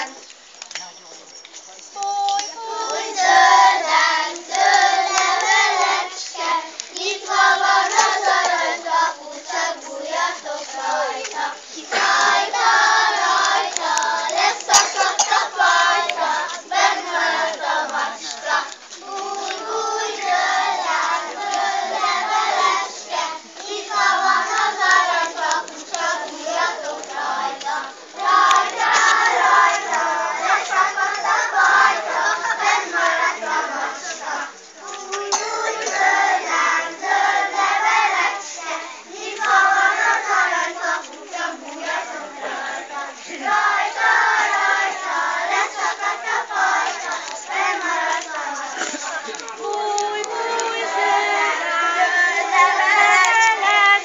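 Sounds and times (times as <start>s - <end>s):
children singing in unison: 2.1s - 54.0s.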